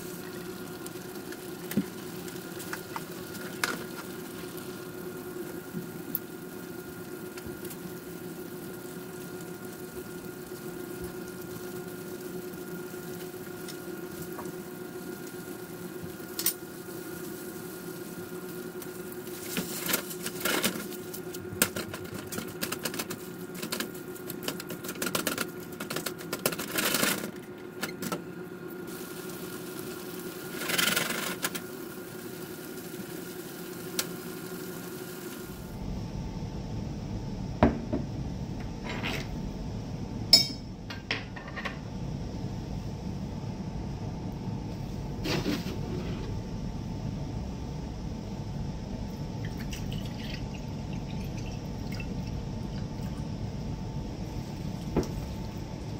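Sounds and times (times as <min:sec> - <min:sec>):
steady kitchen hum: 0:00.0 - 0:55.9.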